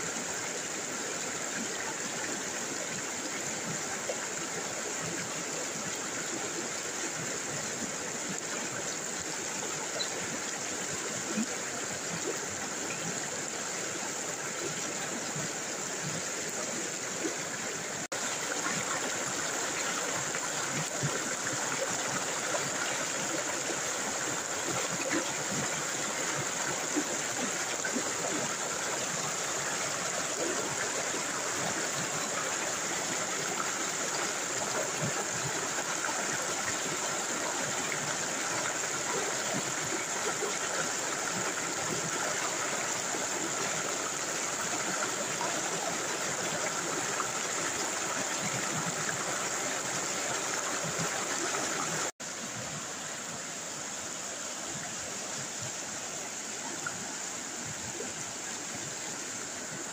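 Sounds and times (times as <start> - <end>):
river rapids rushing over rocks: 0.0 - 59.9.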